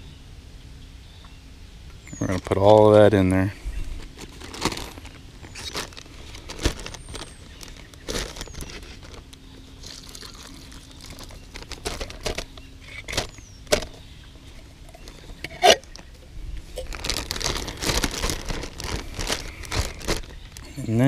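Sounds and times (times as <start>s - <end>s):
plastic bag crinkling: 3.8s - 21.0s.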